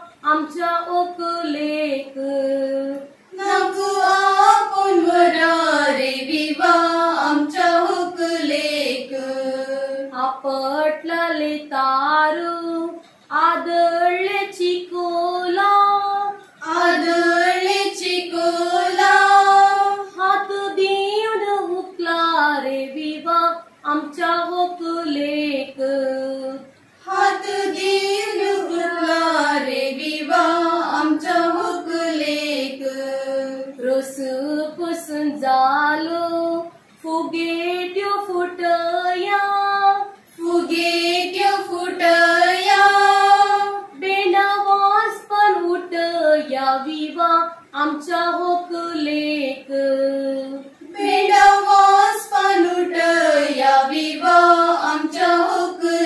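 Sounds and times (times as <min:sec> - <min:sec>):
young women singing together: 0:00.0 - 0:56.0.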